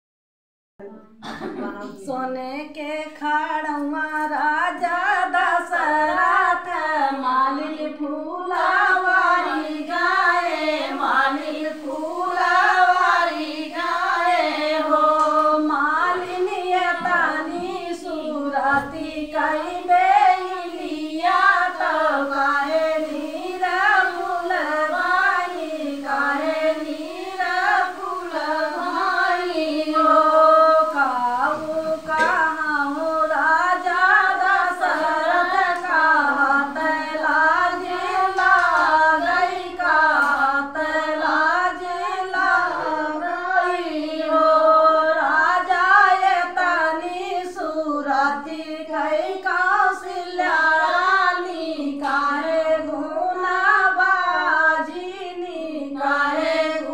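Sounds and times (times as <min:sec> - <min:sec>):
woman singing unaccompanied: 0:00.8 - 0:56.9.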